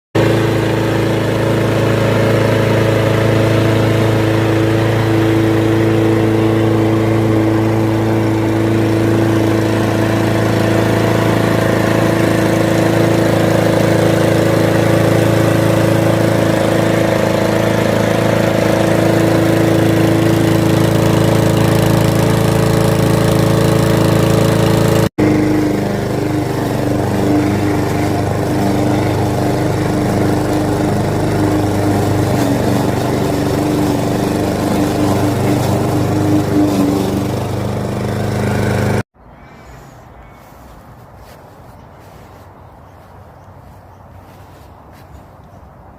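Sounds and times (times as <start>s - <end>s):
lawn mower engine running: 0.1s - 39.1s.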